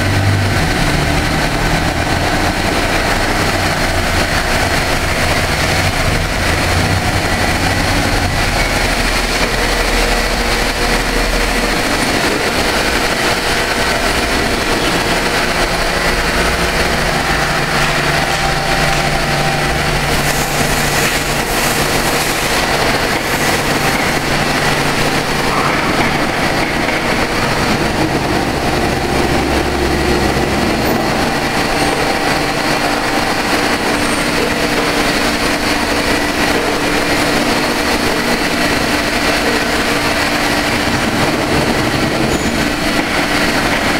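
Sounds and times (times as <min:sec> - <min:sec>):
low motor hums: 0:00.0 - 0:43.9
machine running noise: 0:00.0 - 0:43.9
machine shop din: 0:00.0 - 0:43.9.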